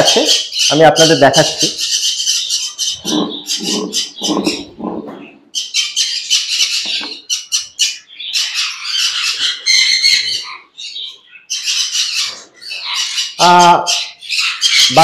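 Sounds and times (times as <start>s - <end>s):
parrots squawking: 0.0s - 15.0s.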